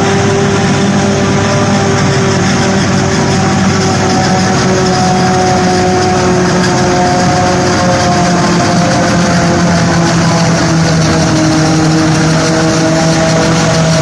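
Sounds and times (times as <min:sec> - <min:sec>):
combine harvester engine running: 0:00.0 - 0:14.0.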